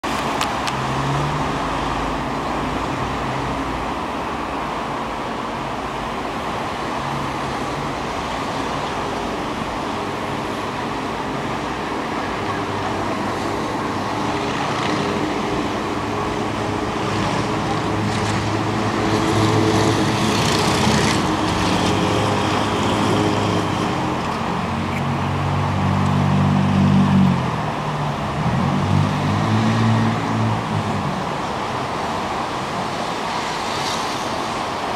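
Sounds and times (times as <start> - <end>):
wind and water rushing: 0.0 - 34.9.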